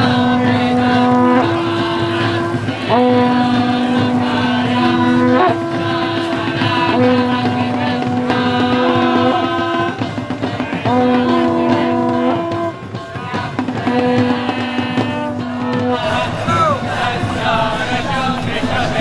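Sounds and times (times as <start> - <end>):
brass horn held notes: 0.0 - 19.0.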